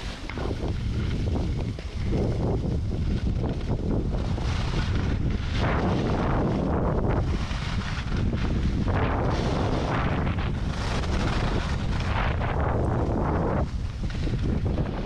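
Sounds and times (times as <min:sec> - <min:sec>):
skis scraping on packed snow: 0:00.0 - 0:15.0
wind buffeting microphone: 0:00.0 - 0:15.0.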